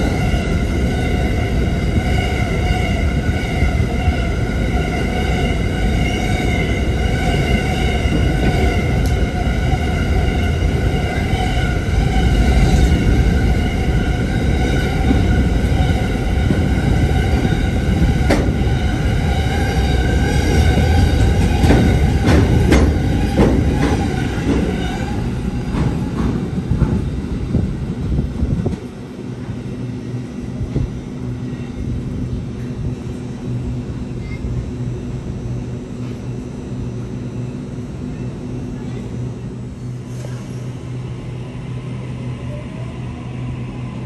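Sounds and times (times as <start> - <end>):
electric train whine and rumble: 0.0 - 44.0.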